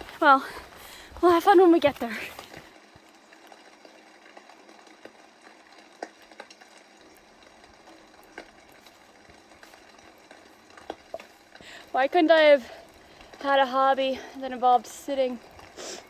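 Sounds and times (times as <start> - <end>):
light rain patter: 0.0 - 16.0
sharper rain taps: 0.0 - 16.0.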